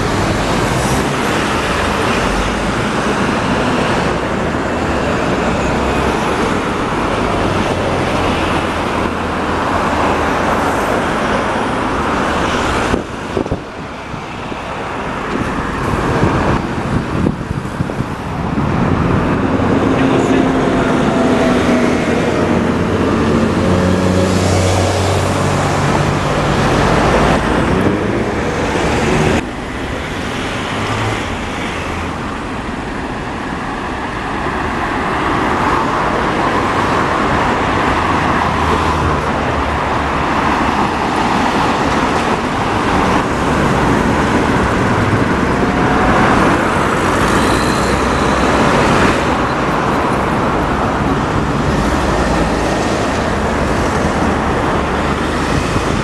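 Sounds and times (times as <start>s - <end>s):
bus engine running loudly: 0.0s - 56.0s
buses and cars passing: 0.0s - 56.0s.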